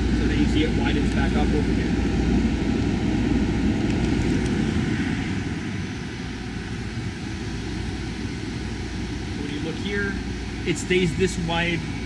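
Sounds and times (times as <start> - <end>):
air conditioner drone: 0.0 - 12.0.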